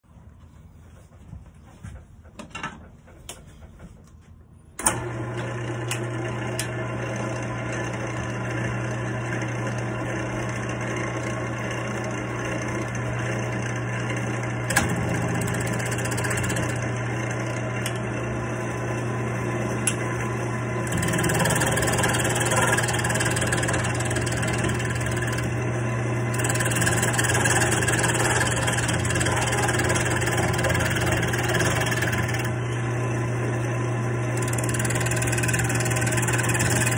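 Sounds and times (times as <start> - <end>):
wood lathe motor humming: 4.8 - 36.9
chisel cutting spinning wood: 4.9 - 36.9.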